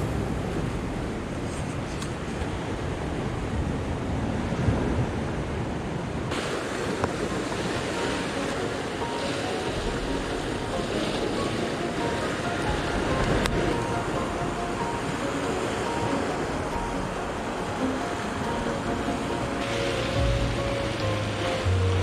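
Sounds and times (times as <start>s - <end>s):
sea surf breaking on rocks: 0.0s - 22.0s
wind on microphone: 0.0s - 22.0s.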